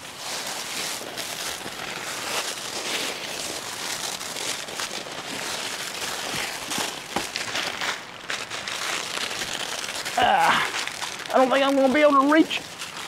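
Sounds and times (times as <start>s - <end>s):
rustling in dry leaves: 0.0s - 13.0s.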